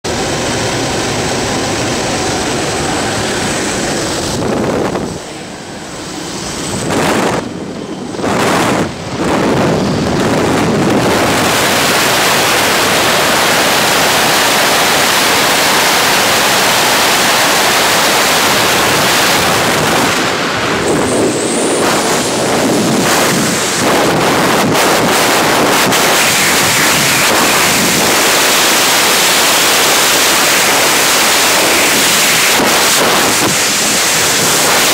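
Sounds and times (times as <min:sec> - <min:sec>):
aircraft noise: 0:00.0 - 0:34.9
wind buffeting microphone: 0:00.1 - 0:34.9.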